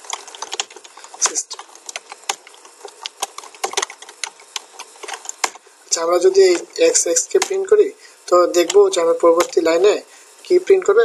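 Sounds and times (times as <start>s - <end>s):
keyboard typing: 0.0s - 10.0s.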